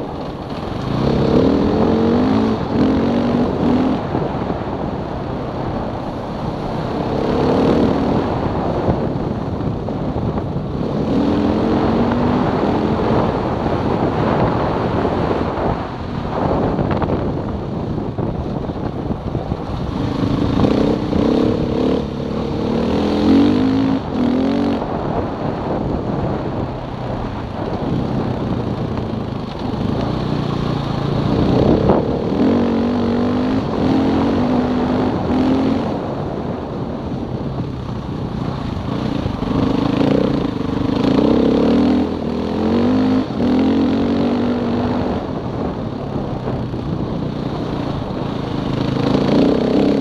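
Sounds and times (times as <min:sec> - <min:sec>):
motorcycle engine accelerating: 0:00.0 - 0:50.0
wind rush: 0:00.0 - 0:50.0.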